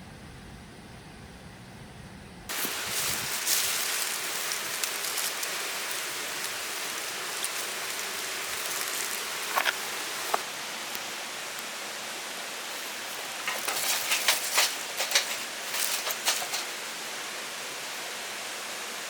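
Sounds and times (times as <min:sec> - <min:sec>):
stream water rushing: 0:02.5 - 0:19.0.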